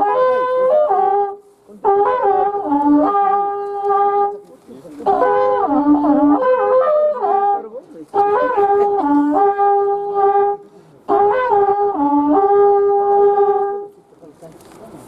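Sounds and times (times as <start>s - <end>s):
horn trumpet long notes: 0.0s - 4.4s, 5.0s - 13.9s.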